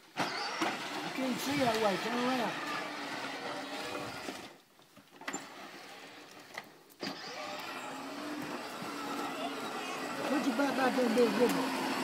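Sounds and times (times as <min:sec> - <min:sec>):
electric toy motor whining: 0:00.2 - 0:04.6, 0:05.3 - 0:12.0.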